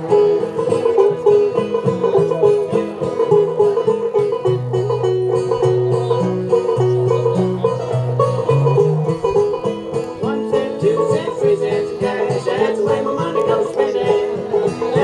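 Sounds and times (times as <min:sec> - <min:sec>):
banjo picking: 0:00.0 - 0:15.0
low string instrument: 0:00.0 - 0:15.0.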